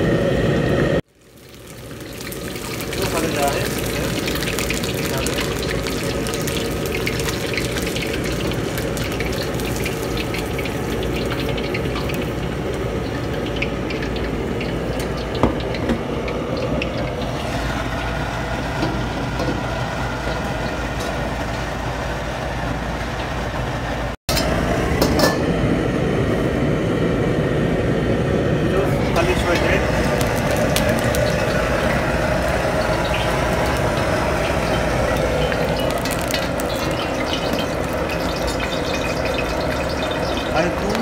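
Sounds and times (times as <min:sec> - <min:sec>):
chicken deep-frying sizzle and crackle: 0:00.0 - 0:41.0
gas burner roar: 0:00.0 - 0:41.0.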